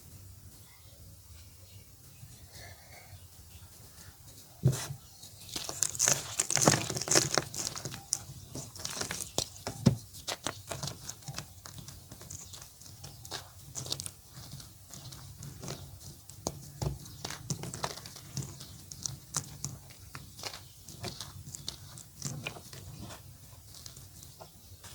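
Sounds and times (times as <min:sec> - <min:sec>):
chalk crumbling and crunching: 0:04.6 - 0:24.9
chalk snapping: 0:04.7 - 0:24.9.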